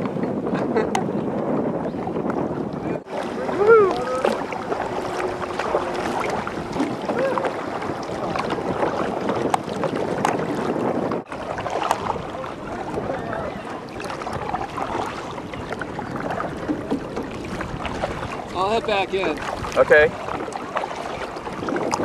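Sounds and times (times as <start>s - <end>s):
water lapping against boat hull: 0.0s - 22.0s
wind on microphone: 0.0s - 22.0s.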